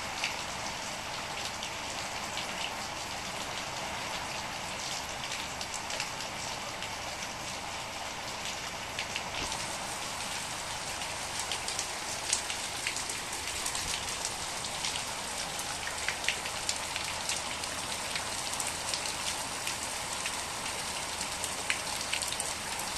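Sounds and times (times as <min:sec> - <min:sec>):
rain falling: 0:00.0 - 0:22.9
raindrops ticking close by: 0:00.0 - 0:22.9.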